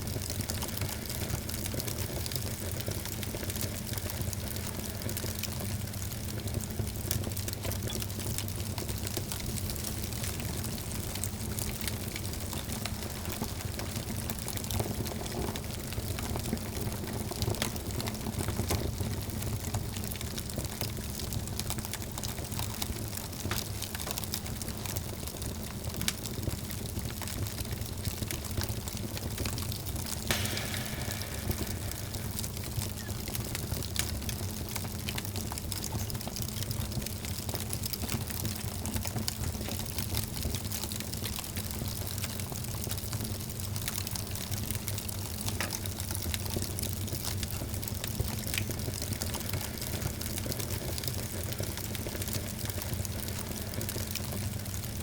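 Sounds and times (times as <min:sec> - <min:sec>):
wood fire crackling in fireplace: 0:00.0 - 0:55.0.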